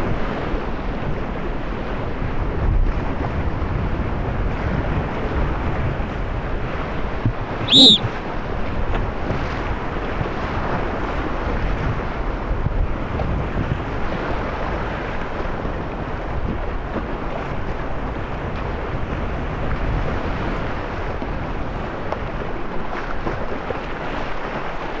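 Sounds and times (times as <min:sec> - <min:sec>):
wind buffeting microphone: 0:01.0 - 0:24.8.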